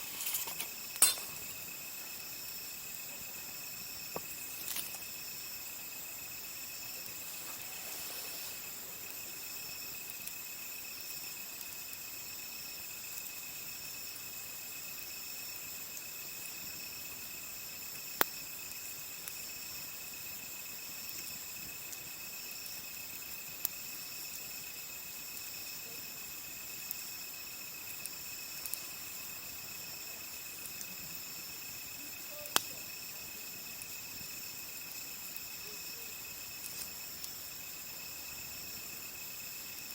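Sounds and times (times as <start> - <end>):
campfire popping: 0.0 - 39.9
crickets and insects trilling: 0.0 - 39.9.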